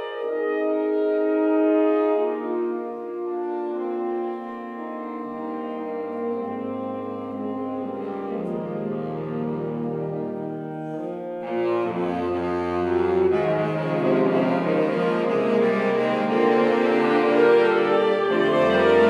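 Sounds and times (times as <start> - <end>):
saxophone ensemble playing chords: 0.0 - 19.0.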